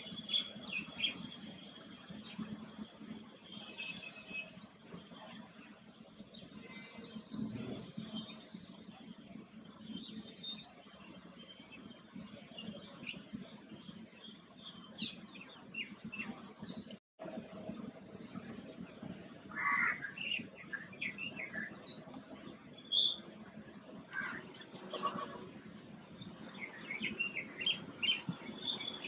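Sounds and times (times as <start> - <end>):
low steady hum: 0.0 - 16.6, 17.2 - 29.0
small birds chirping: 0.0 - 17.0, 18.2 - 29.0.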